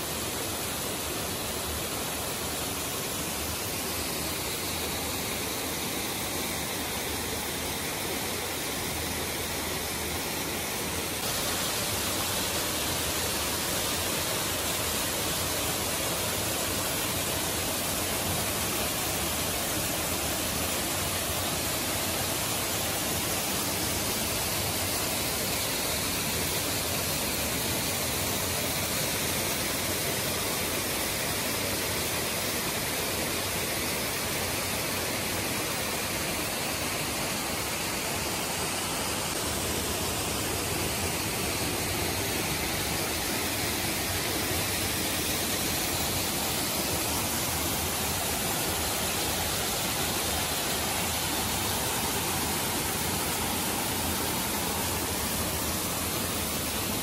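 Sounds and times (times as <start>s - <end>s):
waterfall pouring over rock: 0.2s - 57.0s.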